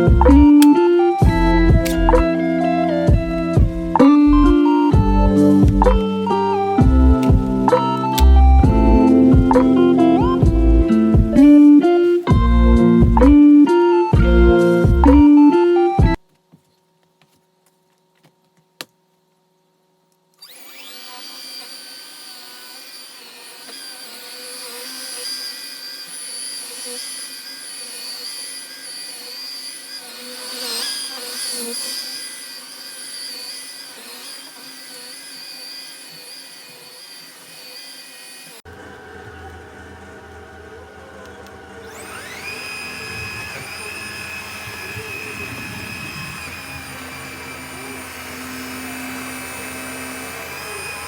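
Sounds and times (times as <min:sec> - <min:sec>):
cordless vacuum whirring: 0:00.0 - 0:16.2, 0:20.4 - 0:51.0.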